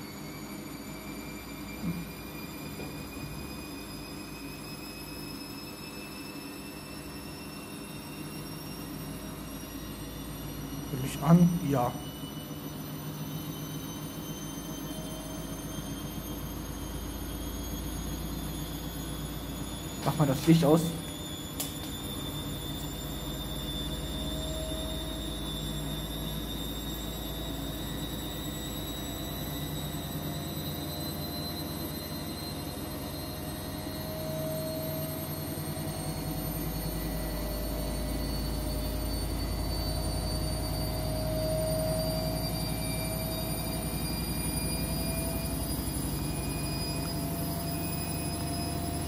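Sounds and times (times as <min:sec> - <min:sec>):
rising motor whine: 0:00.0 - 0:49.0
washing machine spinning: 0:00.0 - 0:49.0.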